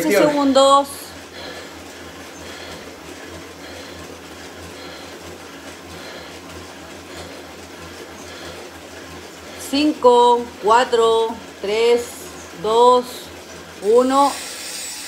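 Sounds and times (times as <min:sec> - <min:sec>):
exercise bike whirring: 0:00.0 - 0:15.0.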